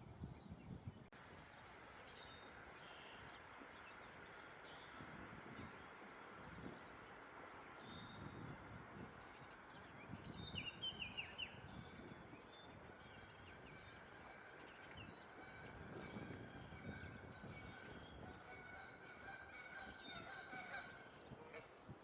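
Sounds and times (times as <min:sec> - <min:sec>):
low rumble of wind: 0:00.0 - 0:22.0.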